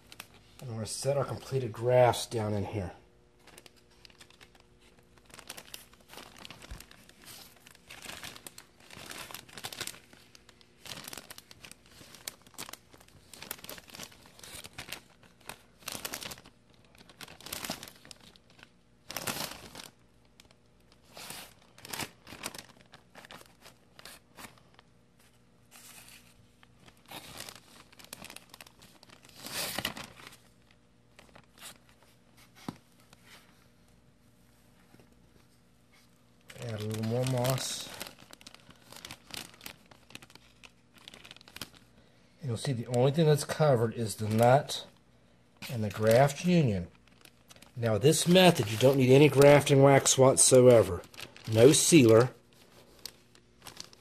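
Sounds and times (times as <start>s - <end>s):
plastic bag crinkling: 0.0s - 34.1s, 34.8s - 54.0s.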